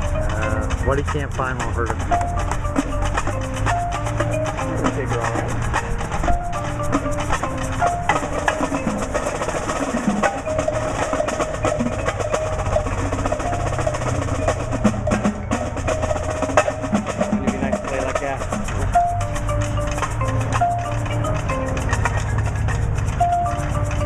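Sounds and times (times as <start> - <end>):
quick drum strokes: 0.0 - 24.0
wood block clicks: 0.0 - 24.0.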